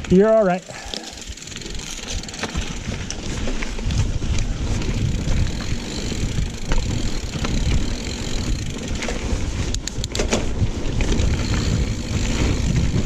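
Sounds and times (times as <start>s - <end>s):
bike clicks and rattles: 0.0s - 13.0s
bike tyres rolling over dirt: 0.0s - 13.0s
wind rumbling on microphone: 0.0s - 13.0s.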